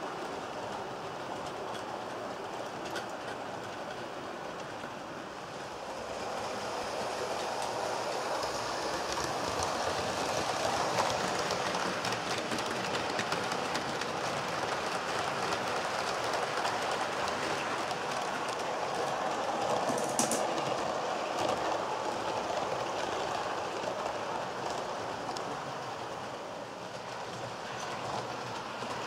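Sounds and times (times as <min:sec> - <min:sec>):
model train wheels clicking on rails: 0:00.0 - 0:29.0.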